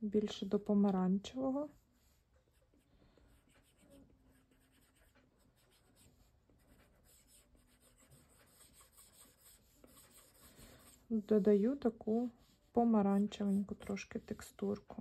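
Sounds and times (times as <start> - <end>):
stylus scratching on glass screen: 1.4 - 15.0.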